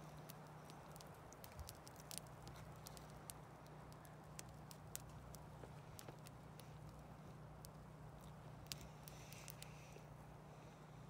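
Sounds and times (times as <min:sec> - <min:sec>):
sharp pops and ticks: 0:00.0 - 0:10.0
campfire crackling: 0:00.0 - 0:11.0
low steady hum: 0:00.0 - 0:11.0.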